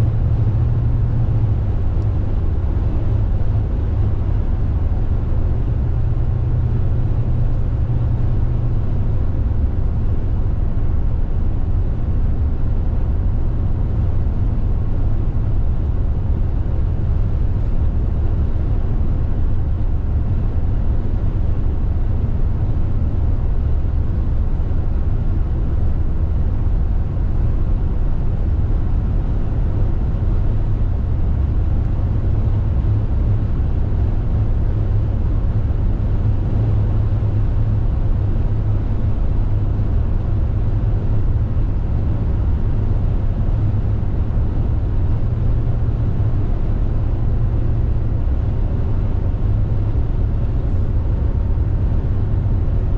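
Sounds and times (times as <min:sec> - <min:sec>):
car road noise from inside: 0:00.0 - 0:52.9.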